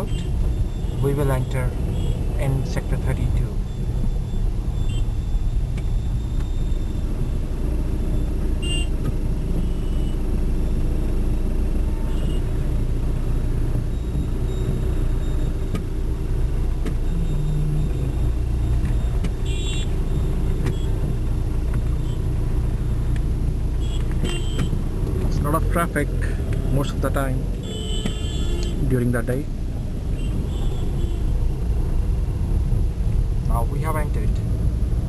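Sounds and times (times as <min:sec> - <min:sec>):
car engine and tyre noise: 0:00.0 - 0:35.0.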